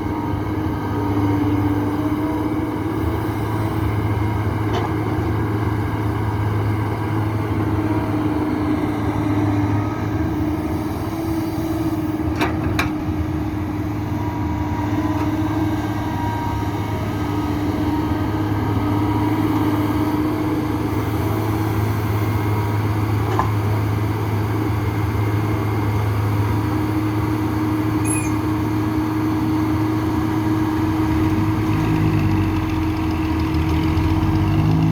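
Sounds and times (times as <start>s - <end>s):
excavator diesel engine droning: 0.0s - 34.9s.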